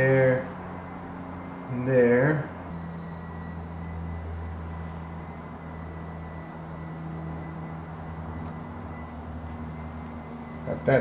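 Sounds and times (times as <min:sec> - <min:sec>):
low machine hum with tones: 0:00.0 - 0:11.0.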